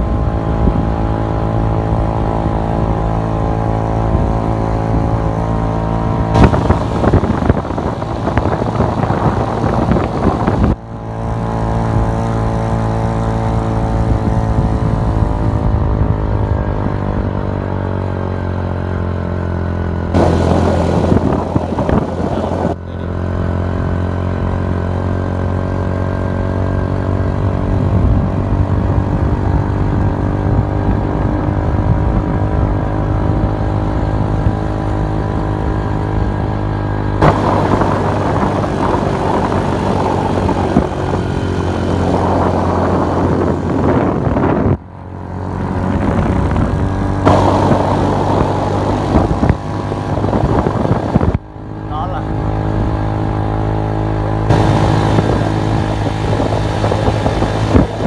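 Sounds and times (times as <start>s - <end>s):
wind on microphone: 0.0s - 18.5s, 20.1s - 23.0s, 26.4s - 58.0s
vehicle engine running steadily: 0.0s - 58.0s.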